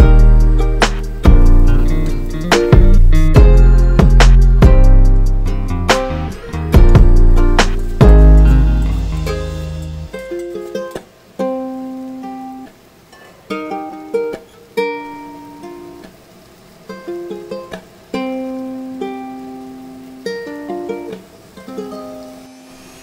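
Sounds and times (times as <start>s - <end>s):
plucked string music: 0.0s - 16.2s, 16.8s - 23.0s.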